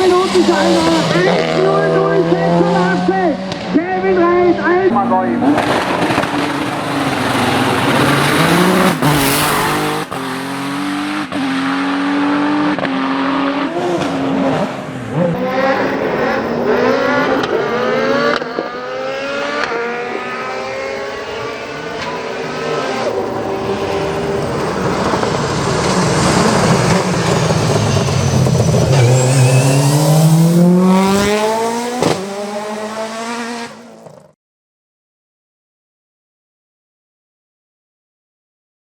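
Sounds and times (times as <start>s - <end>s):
race car engines revving: 0.0s - 34.4s.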